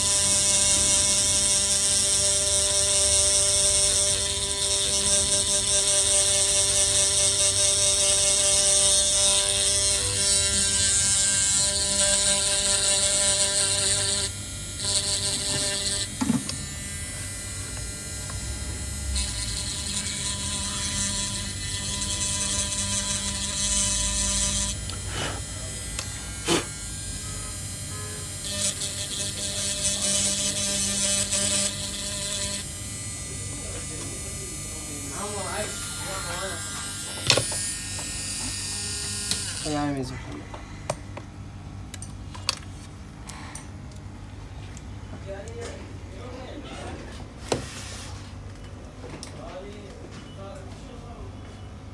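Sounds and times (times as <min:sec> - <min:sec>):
small motor hum and whir: 0:00.0 - 0:49.6.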